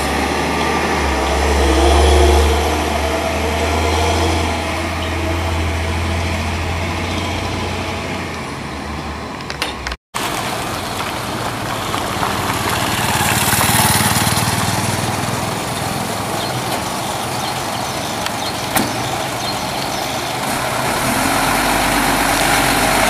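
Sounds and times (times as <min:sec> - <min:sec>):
diesel truck engine humming: 0:00.0 - 0:23.0
truck approaching on gravel: 0:00.0 - 0:23.0.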